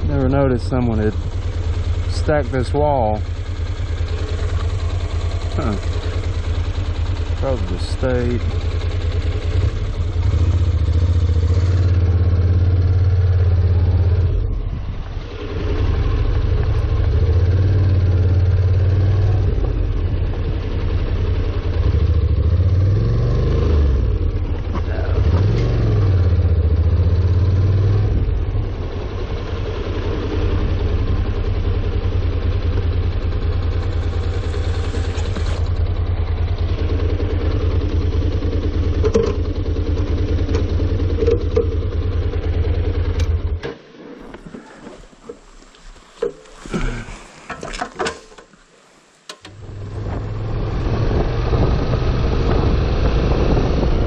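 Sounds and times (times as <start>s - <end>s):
motorcycle engine running: 0.0s - 47.9s, 49.5s - 54.0s.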